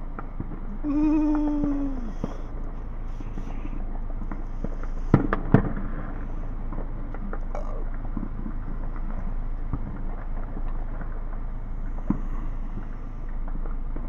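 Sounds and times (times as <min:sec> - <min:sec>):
faint firework pops: 0:00.0 - 0:14.0
low rumble: 0:00.0 - 0:14.0.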